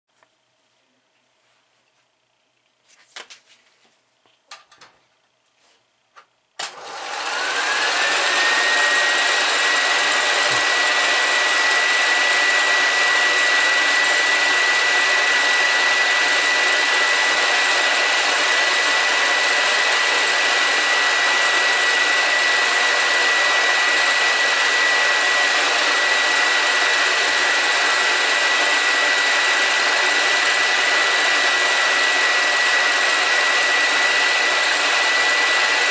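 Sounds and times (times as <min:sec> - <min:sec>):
film projector running: 0:06.6 - 0:35.9.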